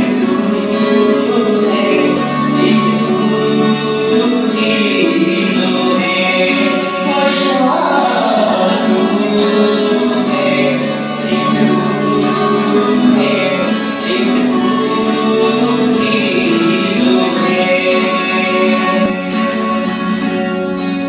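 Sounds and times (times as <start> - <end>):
guitar accompaniment: 0.0 - 21.0
person singing devotional song: 0.8 - 19.1.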